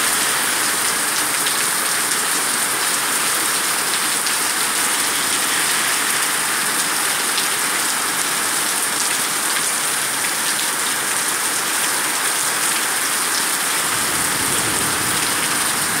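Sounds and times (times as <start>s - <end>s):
rain on pavement: 0.0s - 16.0s.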